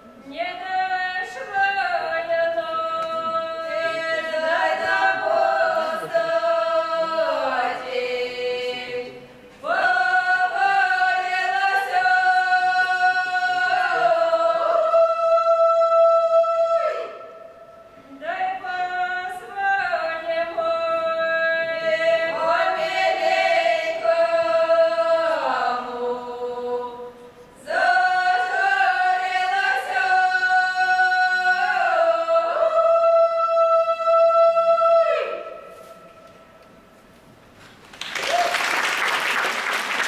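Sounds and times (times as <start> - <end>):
mixed choir singing a cappella: 0.4 - 17.5, 18.2 - 36.0.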